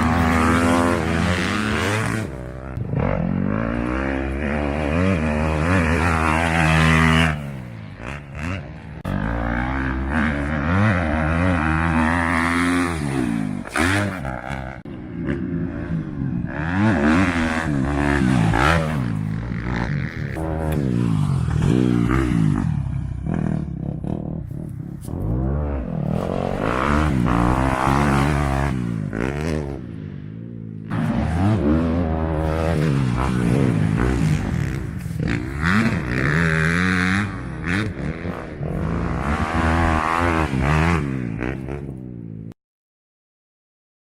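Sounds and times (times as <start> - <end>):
dirt bike engine revving: 0.0 - 42.5.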